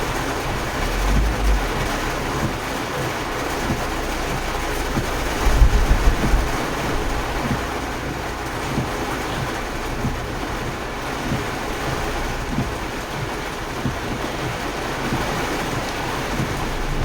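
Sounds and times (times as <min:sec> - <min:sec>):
floodwater rushing: 0:00.0 - 0:17.0
wind buffeting microphone: 0:00.0 - 0:17.0.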